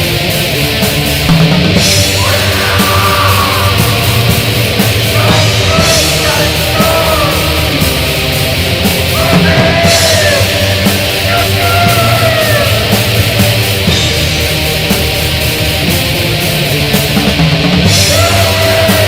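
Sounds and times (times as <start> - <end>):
heavy metal music with drums: 0.0 - 19.0.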